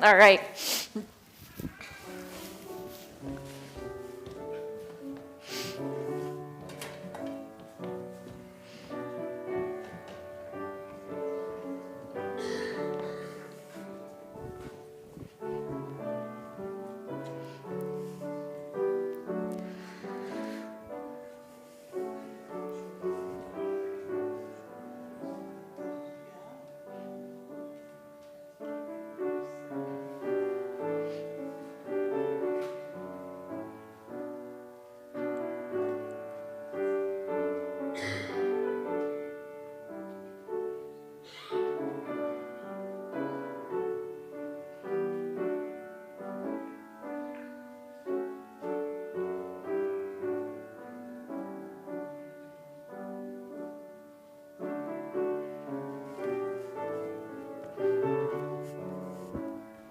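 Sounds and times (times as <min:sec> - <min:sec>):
slow piano piece: 0:00.0 - 0:59.9.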